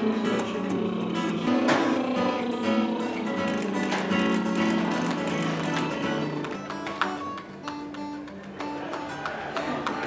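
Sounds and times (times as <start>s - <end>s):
acoustic pop-rock guitar music: 0.0s - 10.0s.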